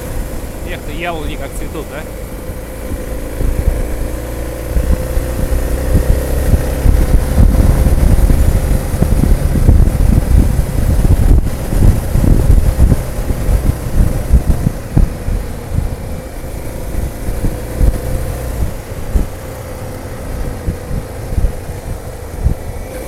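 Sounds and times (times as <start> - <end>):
motorcycle engine running: 0.0 - 23.0
wind rumble on microphone: 0.0 - 23.0.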